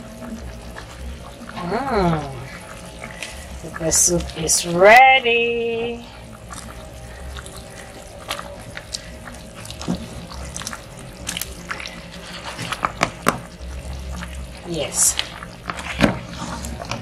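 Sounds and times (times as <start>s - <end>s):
soup bubbling and popping: 0.0s - 17.0s.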